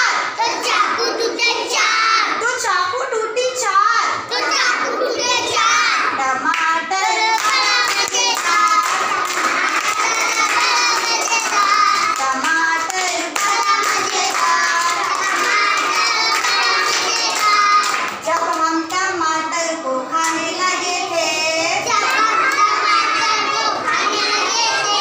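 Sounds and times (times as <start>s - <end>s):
children singing together: 0.0s - 2.5s, 4.1s - 25.0s.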